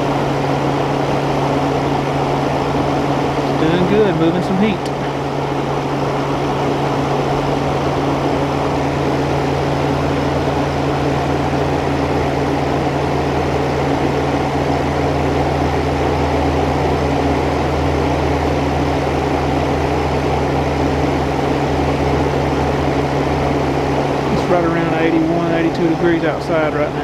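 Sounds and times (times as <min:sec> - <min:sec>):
air conditioner compressor hum: 0:00.0 - 0:27.0
condenser fan rushing: 0:00.0 - 0:27.0.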